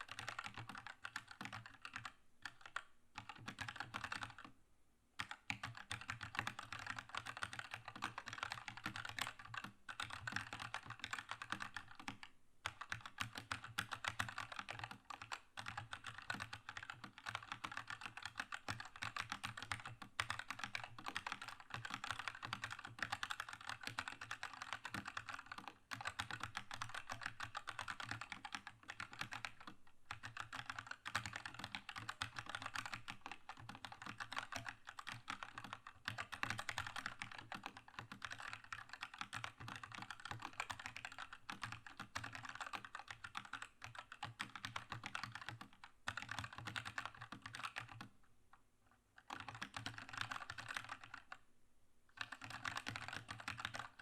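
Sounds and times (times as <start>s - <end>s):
fast typing on mechanical keyboard: 0.0s - 4.5s, 5.2s - 48.1s, 49.2s - 51.4s, 52.2s - 54.0s.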